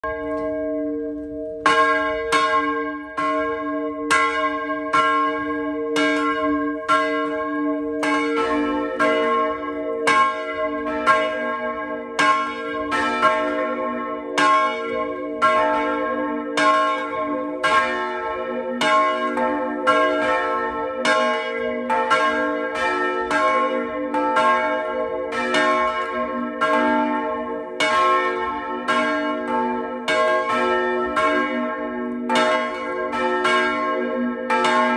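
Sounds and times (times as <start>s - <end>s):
church bell ringing: 0.0s - 34.9s
deeper church bell: 0.0s - 34.9s.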